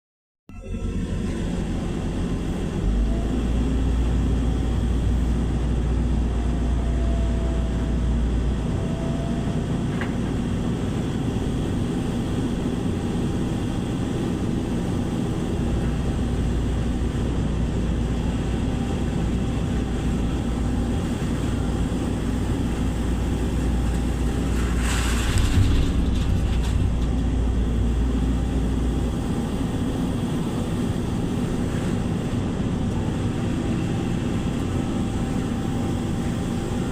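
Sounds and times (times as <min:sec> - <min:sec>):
heavy engine rumbling: 0:00.5 - 0:36.9.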